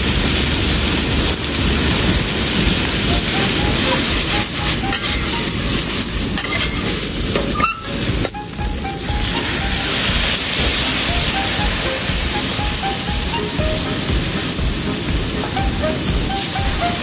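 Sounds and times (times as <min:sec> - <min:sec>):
background music: 0:00.0 - 0:17.0
food sizzling in hot pan: 0:00.0 - 0:17.0.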